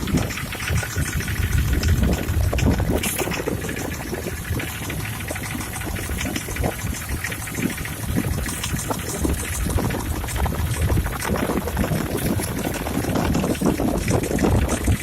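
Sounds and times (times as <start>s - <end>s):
car engine idling: 0.0s - 15.0s
rapid engine knocking: 0.0s - 15.0s.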